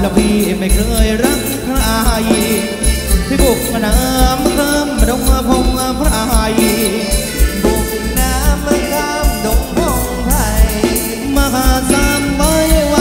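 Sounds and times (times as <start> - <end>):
melodic lead with sliding notes: 0.0 - 13.0
steady drum beat: 0.0 - 13.0.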